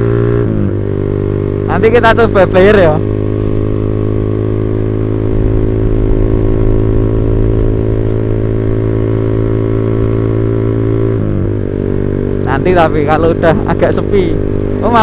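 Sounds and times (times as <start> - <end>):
motorcycle engine bassy note: 0.0 - 15.0.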